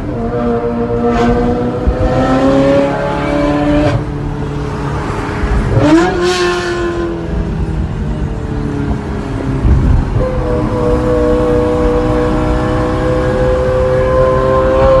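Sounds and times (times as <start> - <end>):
car engine revving in tunnel: 0.0 - 7.5, 8.8 - 15.0.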